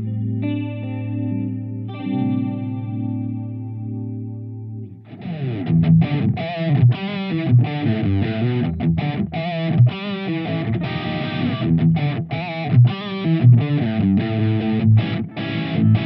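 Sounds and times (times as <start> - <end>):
overdriven electric guitar riff: 0.0 - 16.0.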